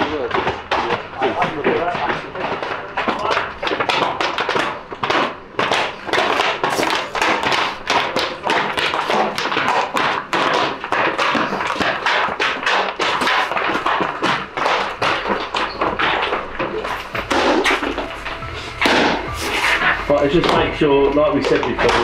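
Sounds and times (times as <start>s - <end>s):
football boots on hard path: 0.0s - 22.0s.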